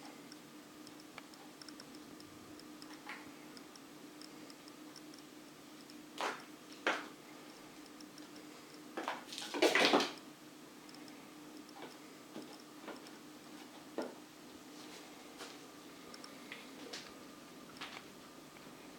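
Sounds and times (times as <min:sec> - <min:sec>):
steady low hum: 0:00.0 - 0:09.4, 0:10.1 - 0:18.9.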